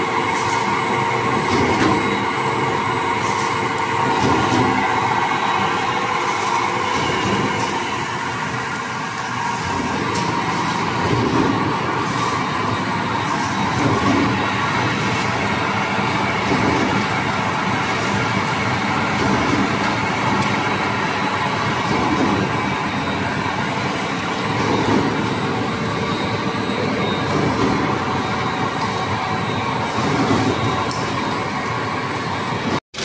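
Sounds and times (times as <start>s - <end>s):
production line machinery running: 0.0s - 33.0s.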